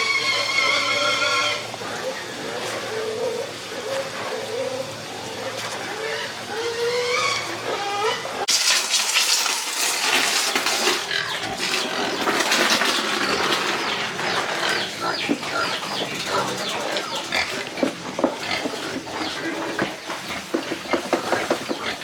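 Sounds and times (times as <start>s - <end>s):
pigs squealing: 0.0s - 22.0s.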